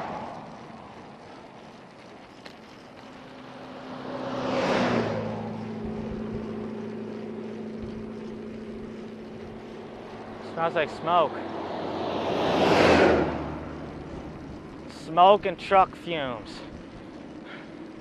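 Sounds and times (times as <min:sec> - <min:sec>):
vehicle passing by: 0:00.0 - 0:01.6, 0:02.4 - 0:18.0
low engine hum: 0:00.0 - 0:18.0.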